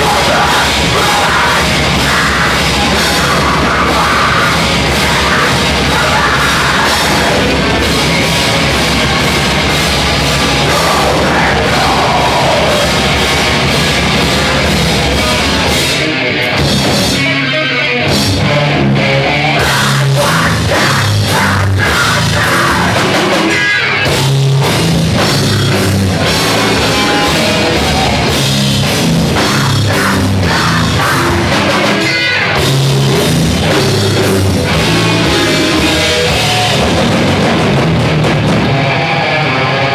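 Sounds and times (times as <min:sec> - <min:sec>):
heavy rock music: 0:00.0 - 0:39.9.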